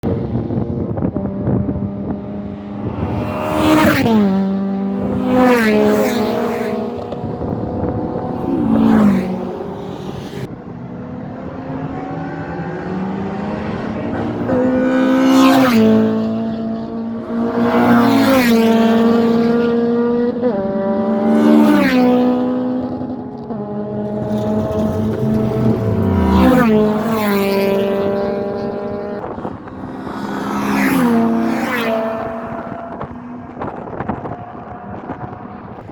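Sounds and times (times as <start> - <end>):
race cars driving past: 0.1 - 35.9.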